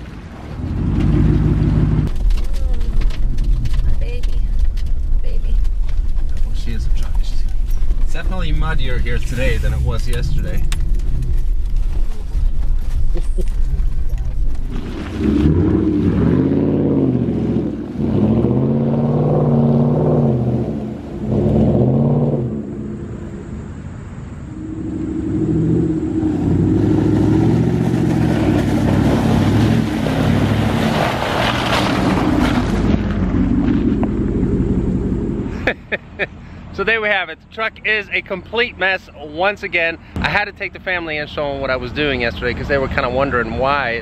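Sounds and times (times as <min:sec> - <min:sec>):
truck engine revving: 0:00.0 - 0:05.4, 0:06.4 - 0:36.4
tyres churning mud: 0:00.0 - 0:22.4, 0:24.8 - 0:40.7.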